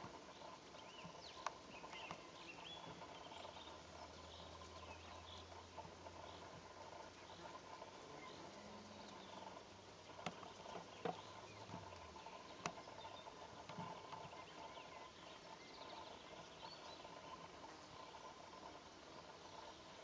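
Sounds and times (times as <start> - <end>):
distant bird chirps: 0.0 - 20.0
faint steady hum: 0.0 - 20.0.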